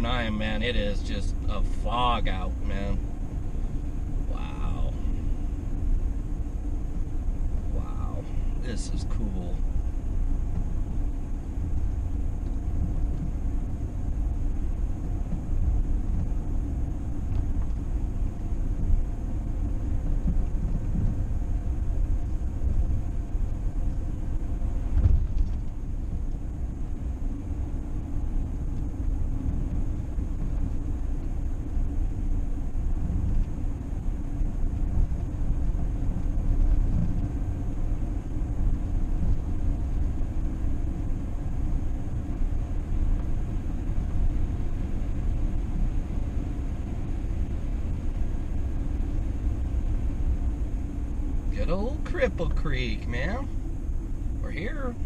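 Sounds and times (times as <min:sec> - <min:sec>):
vehicle road and engine rumble: 0:00.0 - 0:55.0.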